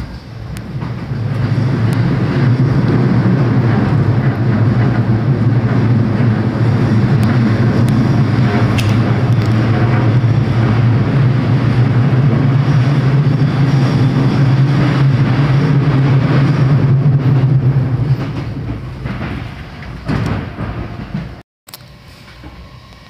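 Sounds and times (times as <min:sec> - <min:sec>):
train low hum: 0:00.0 - 0:23.0
train rolling noise: 0:00.0 - 0:23.0.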